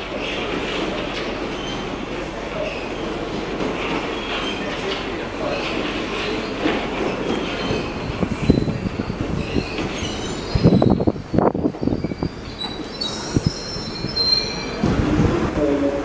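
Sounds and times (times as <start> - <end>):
train pulling into platform: 0.0 - 16.0
high squeal of wheels and brakes: 1.1 - 3.2, 4.0 - 14.8.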